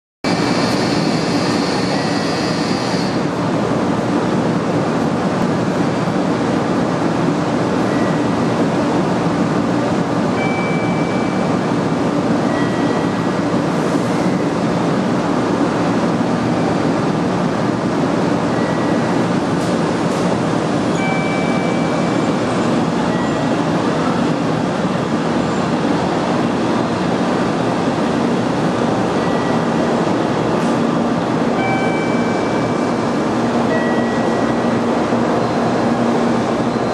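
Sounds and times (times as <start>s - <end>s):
train equipment rushing hum: 0.2s - 36.9s.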